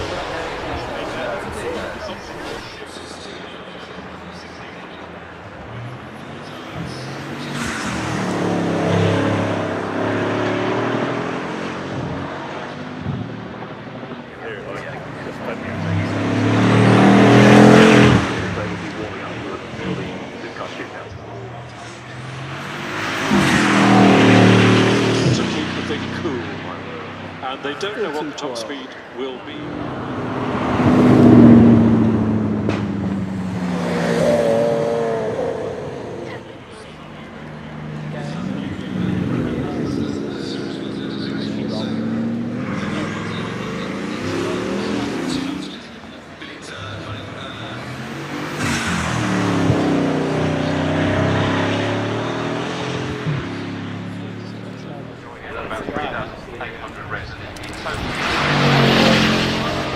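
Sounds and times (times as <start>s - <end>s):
car engine driving past: 0.0s - 27.7s, 29.4s - 59.9s
higher engine tone: 0.0s - 59.9s.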